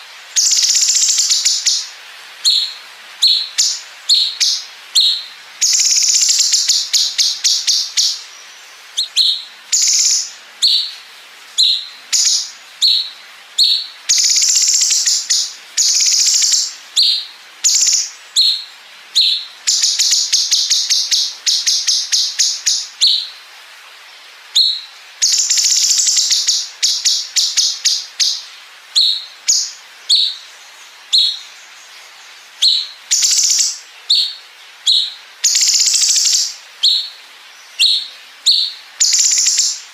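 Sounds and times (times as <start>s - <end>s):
bird chirping and trilling: 0.0s - 11.0s, 11.6s - 23.4s, 24.6s - 39.9s.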